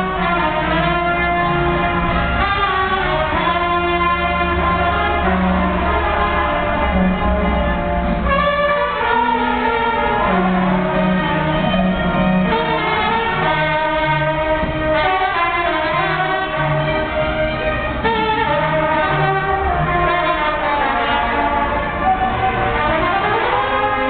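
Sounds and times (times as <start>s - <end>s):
instrumental music with horns: 0.0s - 24.0s.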